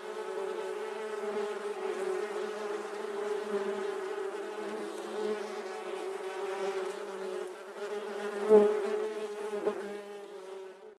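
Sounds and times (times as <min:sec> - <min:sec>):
honeybee buzzing in flight: 0:00.0 - 0:10.8.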